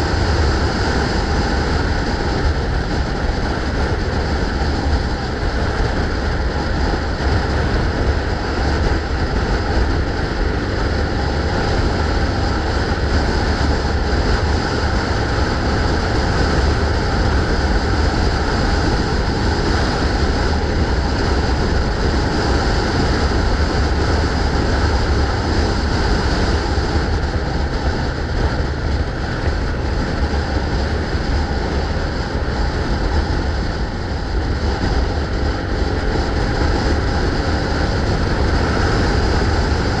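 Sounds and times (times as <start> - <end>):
rumbling road noise: 0.0 - 40.0
wind buffeting microphone: 0.0 - 40.0.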